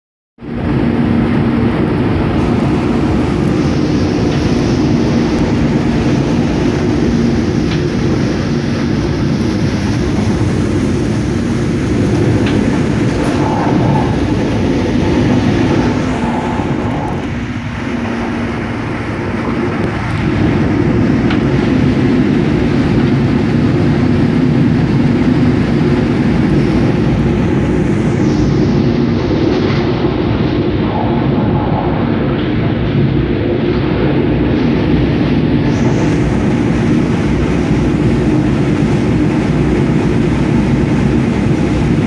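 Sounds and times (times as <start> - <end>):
low hum: 0.4 - 42.0
train wheels rumbling on rail: 0.4 - 42.0.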